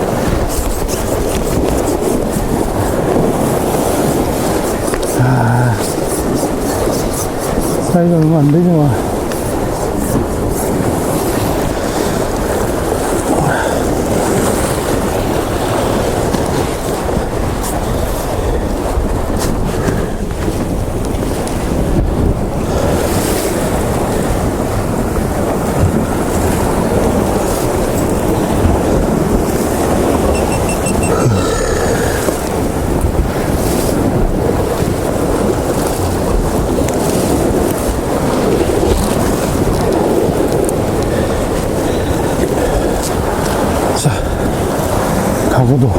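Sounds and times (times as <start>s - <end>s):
sea surging against rocks: 0.0s - 45.9s
wind buffeting microphone: 0.0s - 45.9s.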